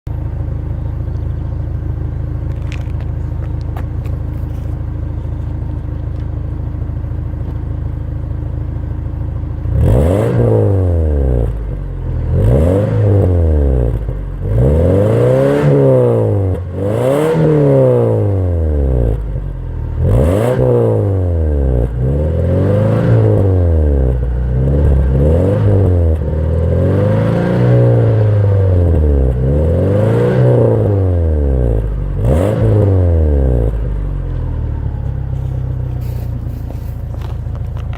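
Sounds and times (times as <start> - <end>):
car engine idling and revving: 0.1 - 37.9.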